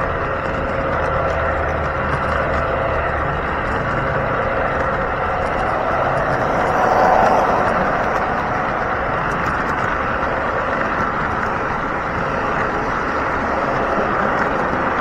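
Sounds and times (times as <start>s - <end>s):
model train wheels rumbling: 0.0s - 15.0s.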